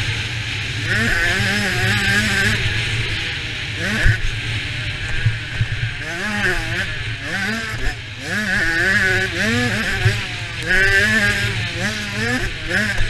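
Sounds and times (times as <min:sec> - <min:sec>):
two-stroke motorbike engine revving: 0:00.0 - 0:13.0.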